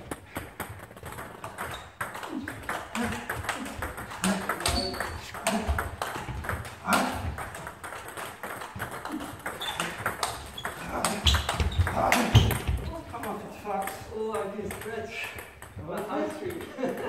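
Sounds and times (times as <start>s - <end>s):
table tennis ball clicking: 0.0s - 17.0s.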